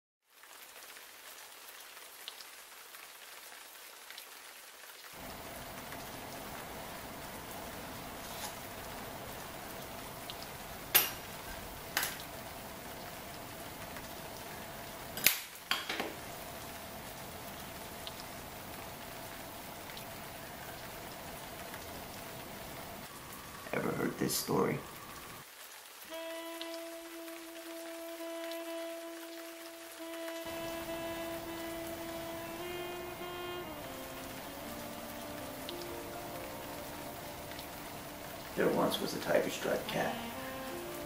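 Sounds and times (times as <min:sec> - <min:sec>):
steady rain: 0:00.2 - 0:41.0.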